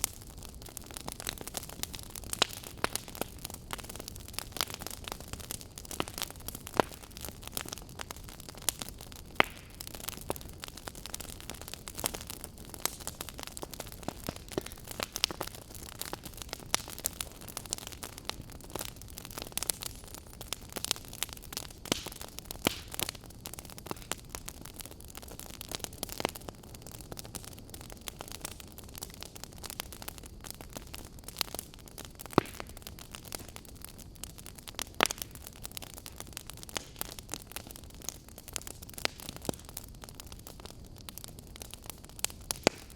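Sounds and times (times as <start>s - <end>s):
fire crackling and popping: 0.0s - 42.9s
wood fire hissing: 0.0s - 42.9s.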